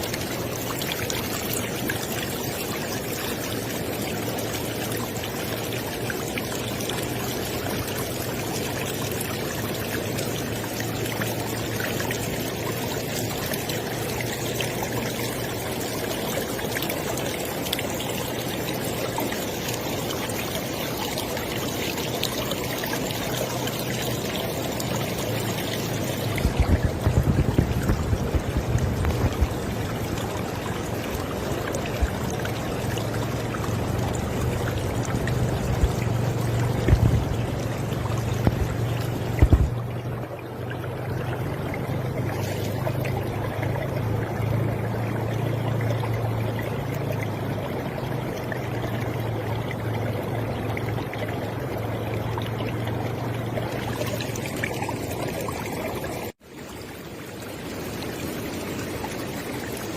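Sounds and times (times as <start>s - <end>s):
river water rushing: 0.0s - 59.9s
water splashes: 0.0s - 59.9s.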